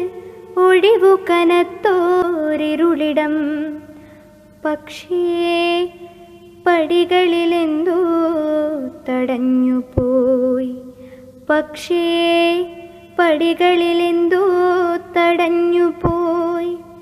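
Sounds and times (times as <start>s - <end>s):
woman singing chant-like verse: 0.0s - 4.0s, 4.6s - 17.0s.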